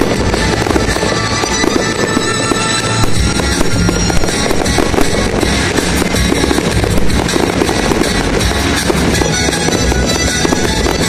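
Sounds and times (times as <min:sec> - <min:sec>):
fireworks bursting and crackling: 0:00.0 - 0:11.0
loud music: 0:00.0 - 0:11.0.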